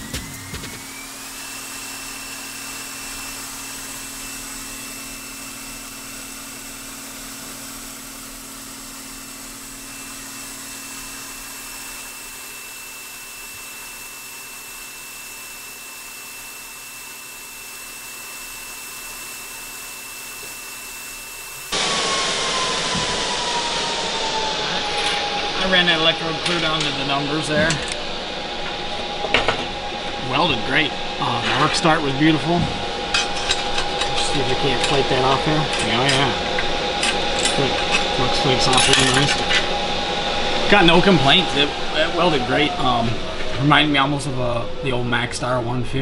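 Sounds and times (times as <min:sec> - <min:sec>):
loud hiss: 0:00.0 - 0:28.9, 0:29.9 - 0:45.0
welding arc burning: 0:00.0 - 0:44.0
faint steady whine: 0:00.0 - 0:46.0.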